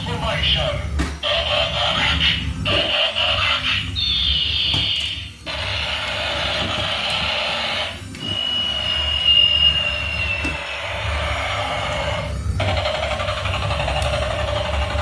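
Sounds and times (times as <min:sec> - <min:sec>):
hissy electronic noise: 0:00.0 - 0:15.0
toy electronic tones: 0:01.2 - 0:15.0.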